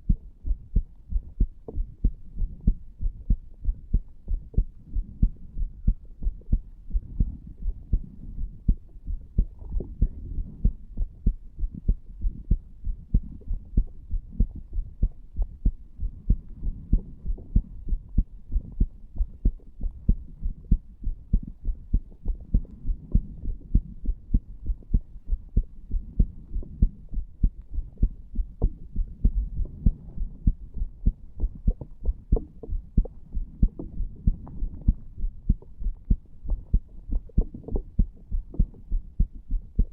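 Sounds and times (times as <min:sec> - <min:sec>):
faint low hum: 0:00.0 - 0:39.9
heartbeat lub-dub thuds: 0:00.0 - 0:39.9.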